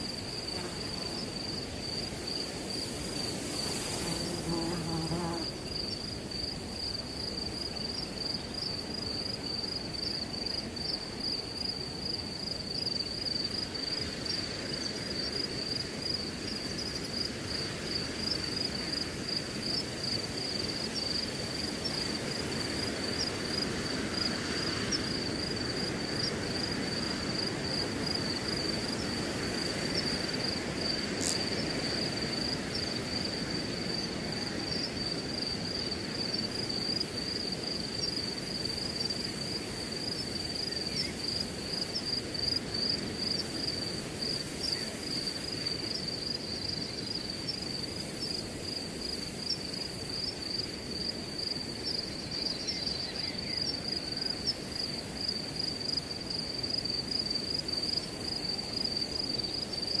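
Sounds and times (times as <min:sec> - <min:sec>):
crickets trilling: 0:00.0 - 1:00.0
wind through grass: 0:00.0 - 1:00.0.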